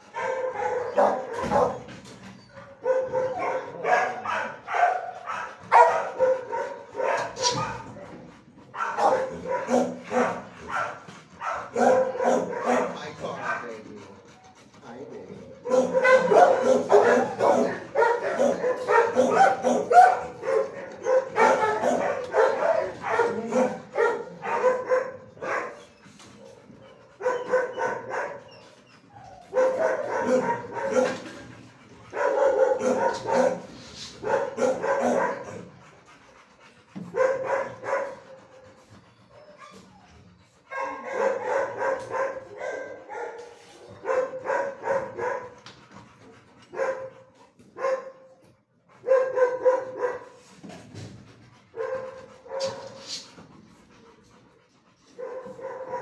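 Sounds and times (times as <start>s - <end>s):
dogs barking: 0.0s - 25.8s, 26.4s - 35.8s, 37.0s - 40.0s, 40.7s - 45.6s, 46.7s - 50.4s, 51.7s - 53.0s, 55.1s - 56.0s.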